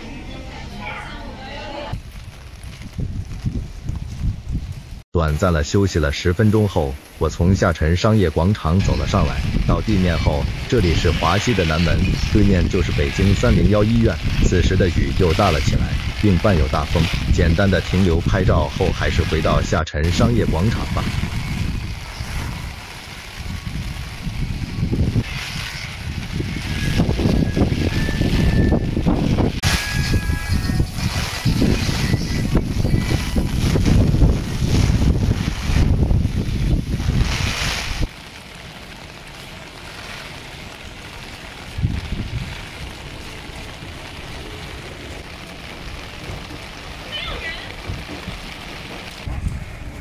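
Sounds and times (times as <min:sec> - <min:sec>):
heavy rain hiss: 0:00.0 - 0:50.0
wind buffeting microphone: 0:01.8 - 0:05.0, 0:08.8 - 0:19.2, 0:20.0 - 0:38.2, 0:40.0 - 0:47.0, 0:47.7 - 0:50.0.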